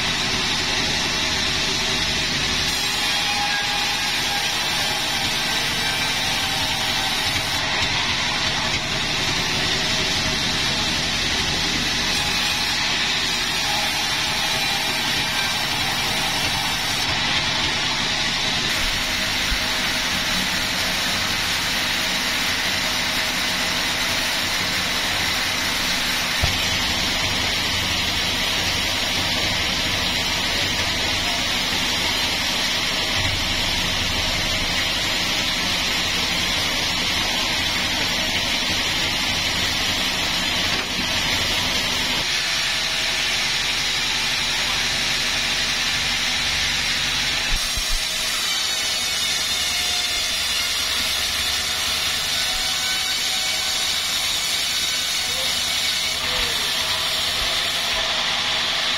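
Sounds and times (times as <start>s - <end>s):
saw noise: 0.0s - 58.9s.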